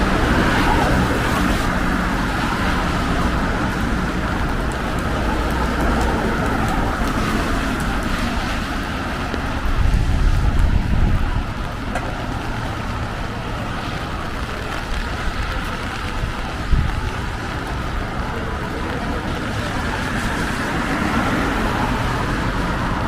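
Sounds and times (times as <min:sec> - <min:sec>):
tyres hissing on wet road: 0:00.0 - 0:23.0.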